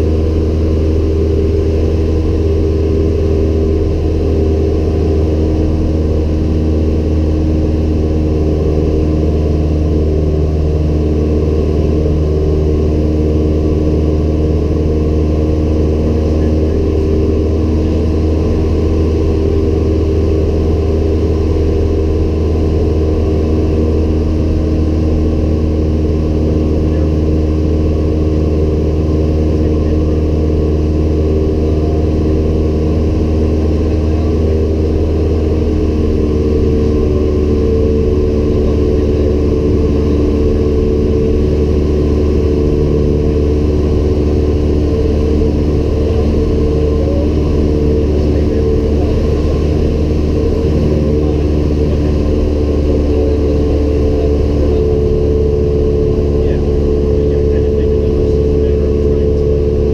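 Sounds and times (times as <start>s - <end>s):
light aircraft engine drone in cabin: 0.0s - 59.9s.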